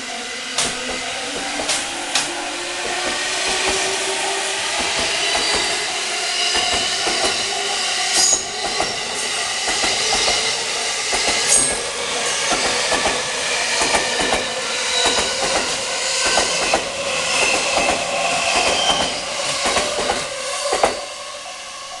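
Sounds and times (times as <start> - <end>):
electric train passing: 0.0 - 22.0
train wheels clicking over rail joints: 0.5 - 21.1.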